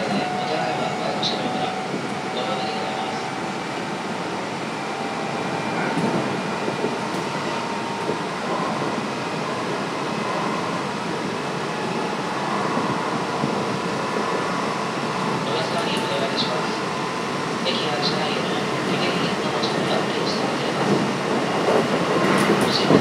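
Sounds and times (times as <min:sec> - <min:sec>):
train wheels running on rails: 0:00.0 - 0:23.0.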